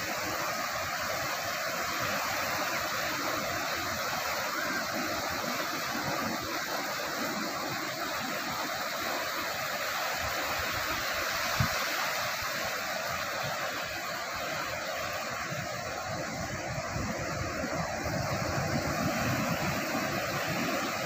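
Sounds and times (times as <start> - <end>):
waves breaking on beach: 0.0 - 21.0.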